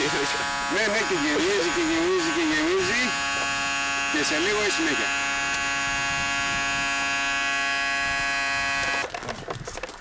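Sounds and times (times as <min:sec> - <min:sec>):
electric fuel pump humming: 0:00.0 - 0:09.3.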